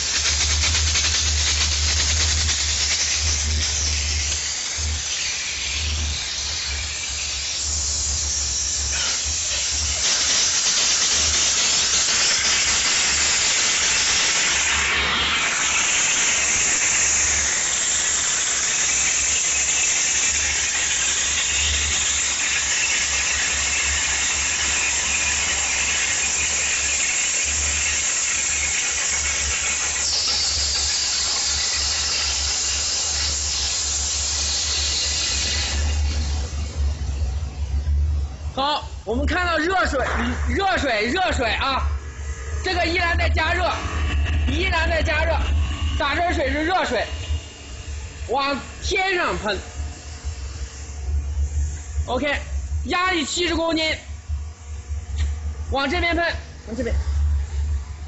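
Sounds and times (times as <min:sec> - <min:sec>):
high squealing hiss: 0:00.0 - 0:58.0
low machine drone: 0:00.0 - 0:58.0
steam cleaner jet hissing: 0:00.0 - 0:58.0.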